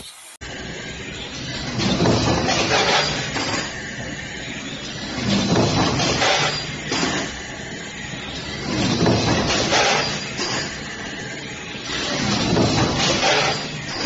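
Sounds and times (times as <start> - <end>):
stamping press mechanical din: 1.4 - 14.0.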